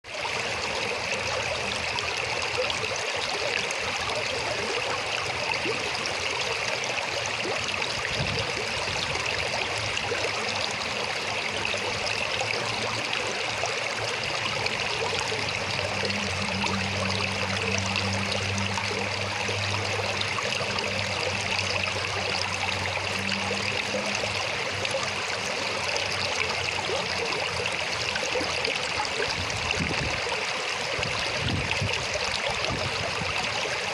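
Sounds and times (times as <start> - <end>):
river water flowing: 0.0 - 33.9.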